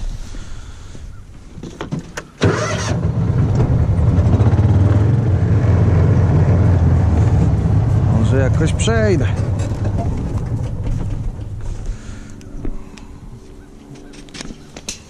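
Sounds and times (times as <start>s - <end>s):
vehicle engine starting and running: 2.2s - 14.5s.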